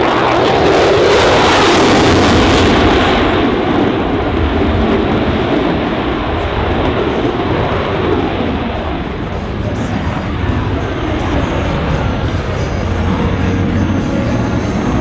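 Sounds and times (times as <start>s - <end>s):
jet engine roaring past: 0.0s - 15.0s.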